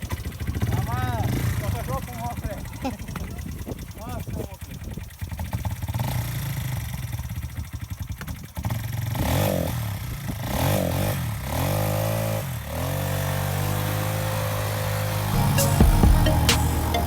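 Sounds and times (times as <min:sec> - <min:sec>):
small engine idling and revving: 0:00.0 - 0:17.0.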